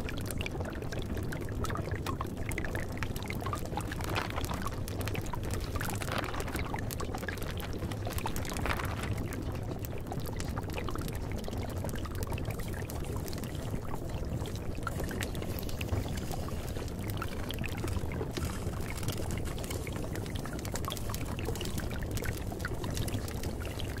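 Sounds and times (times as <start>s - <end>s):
water pouring and trickling: 0.0s - 24.0s.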